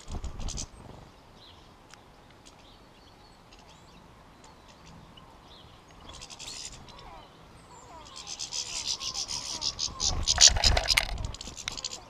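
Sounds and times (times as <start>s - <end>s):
finches chirping and twittering: 0.0s - 12.0s.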